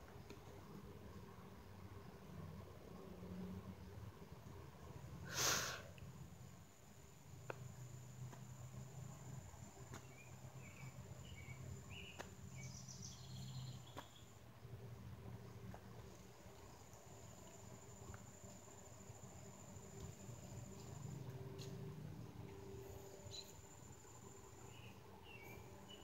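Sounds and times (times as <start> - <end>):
faint low hum: 0.0 - 26.0
insect drone: 0.0 - 26.0.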